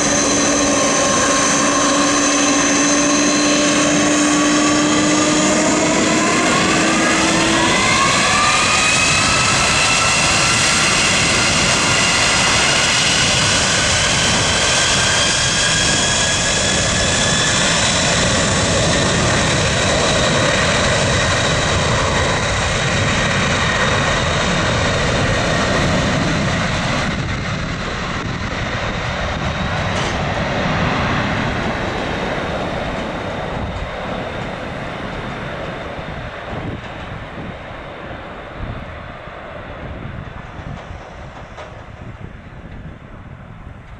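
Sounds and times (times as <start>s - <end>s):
jet engines spooling up: 0.0s - 43.0s
jet rumble: 0.0s - 43.9s.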